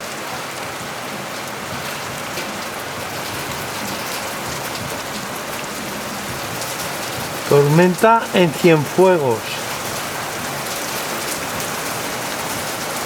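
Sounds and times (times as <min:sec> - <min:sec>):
heavy rain on hard surfaces: 0:00.0 - 0:13.0.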